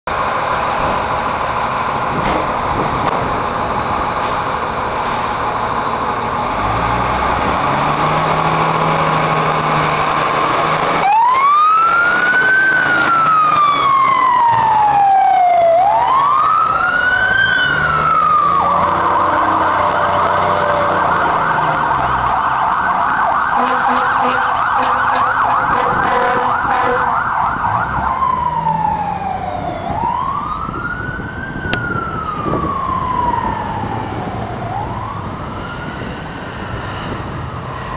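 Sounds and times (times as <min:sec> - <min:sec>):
fire engine siren: 0:00.1 - 0:37.9.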